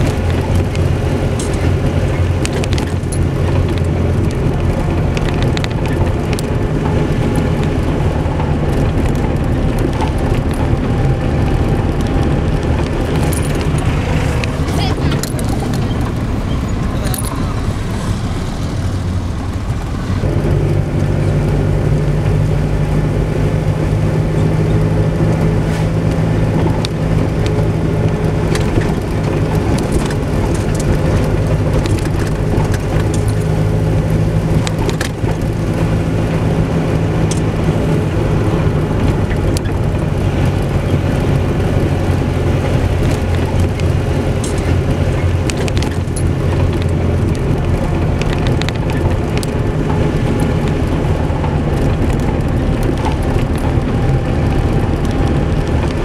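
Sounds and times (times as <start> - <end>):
small clicks and rattles: 0.0 - 17.5, 26.0 - 56.0
car engine hum: 0.0 - 56.0
road rumble: 0.0 - 56.0.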